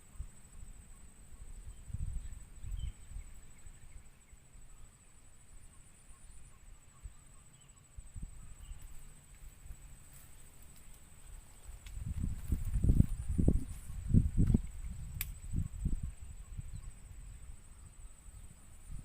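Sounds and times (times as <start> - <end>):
faint bird chirps: 0.0 - 9.6, 12.9 - 19.0.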